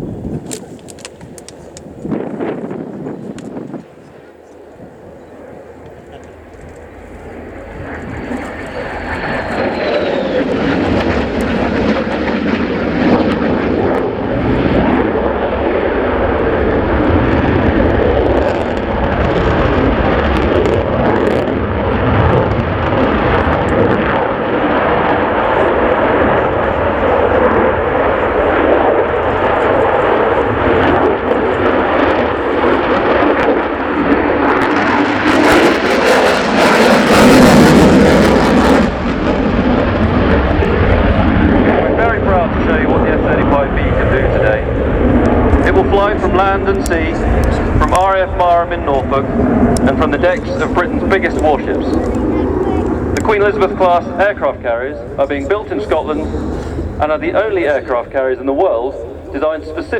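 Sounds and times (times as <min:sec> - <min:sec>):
jet fighter engine roaring: 0:00.0 - 0:59.9.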